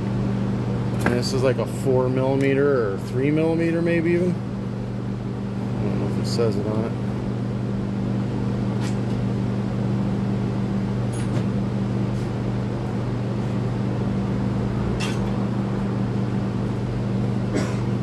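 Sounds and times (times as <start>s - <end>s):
electric fans humming: 0.0s - 18.0s.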